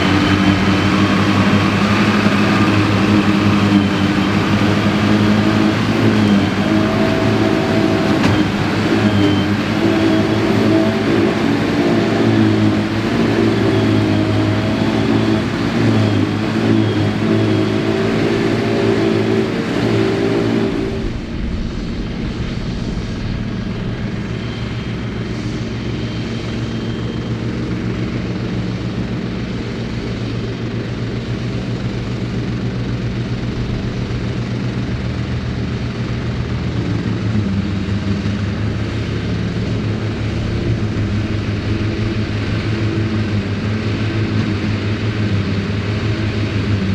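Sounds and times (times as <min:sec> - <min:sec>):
forage harvester working: 0:00.0 - 0:46.9
tractor diesel engine running: 0:00.0 - 0:46.9.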